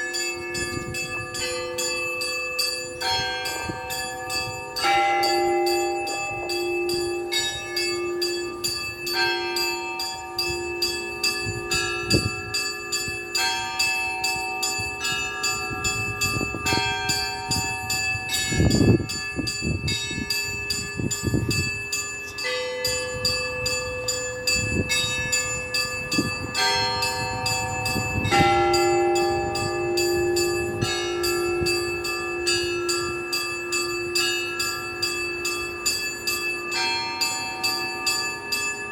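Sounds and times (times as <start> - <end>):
heavy low bell strikes: 0.0 - 38.9
held low bell tone: 0.0 - 38.9
small high bells pealing: 0.0 - 38.9.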